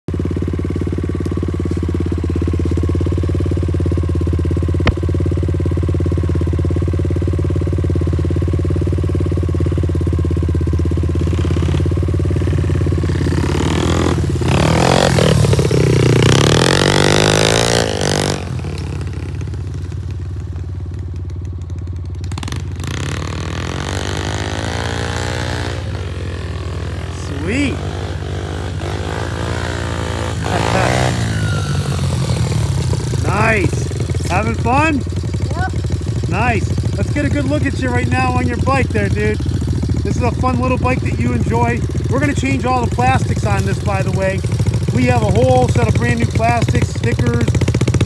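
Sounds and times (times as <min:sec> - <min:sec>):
pit bike engine revving: 0:00.1 - 0:48.0.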